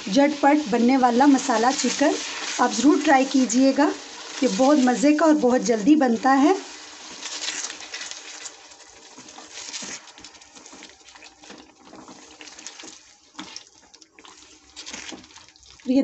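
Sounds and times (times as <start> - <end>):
food sizzling and bubbling in pan: 0.0 - 16.0.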